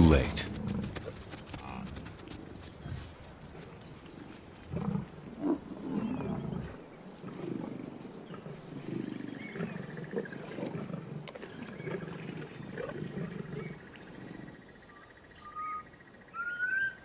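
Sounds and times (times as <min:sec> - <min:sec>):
lions growling: 0:00.0 - 0:14.6.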